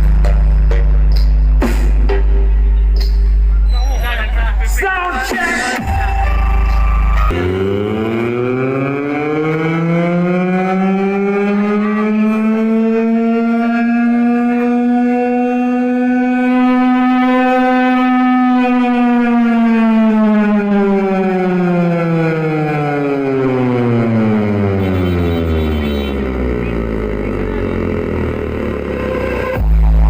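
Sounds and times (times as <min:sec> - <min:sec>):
siren-like rising and falling tone: 0:03.5 - 0:30.0.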